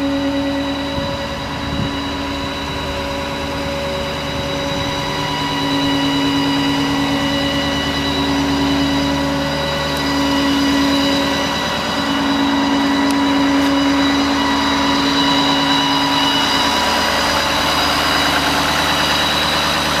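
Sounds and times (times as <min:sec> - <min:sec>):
steady engine whine: 0:00.0 - 0:20.0
truck engine idling: 0:00.0 - 0:20.0.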